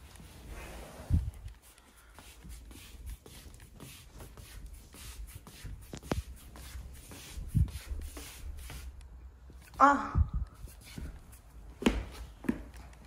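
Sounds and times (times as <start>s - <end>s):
slippers shuffling on wooden floor: 0.0s - 9.7s, 10.6s - 13.0s.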